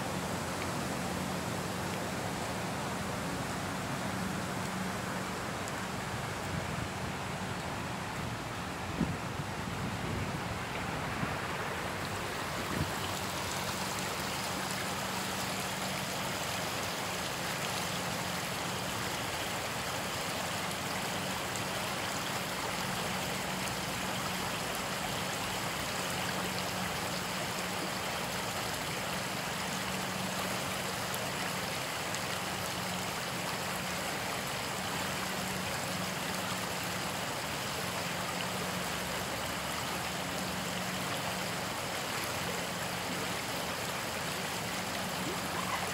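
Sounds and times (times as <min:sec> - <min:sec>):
water rushing over weir: 0:00.0 - 0:45.9.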